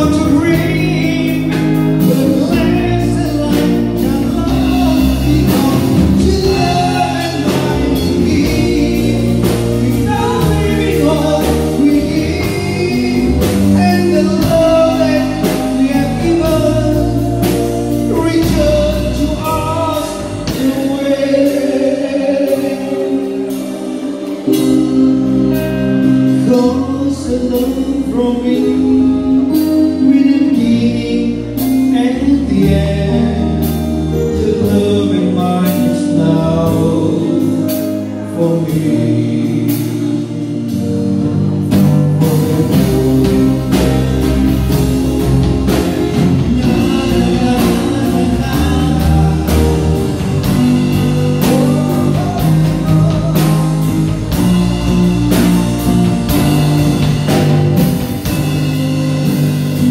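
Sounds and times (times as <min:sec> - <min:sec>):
man singing into a microphone: 0:00.0 - 0:41.2, 0:42.1 - 0:44.0, 0:45.2 - 0:55.6
drum kit beat: 0:00.0 - 0:59.9
electric guitars: 0:00.0 - 0:59.9.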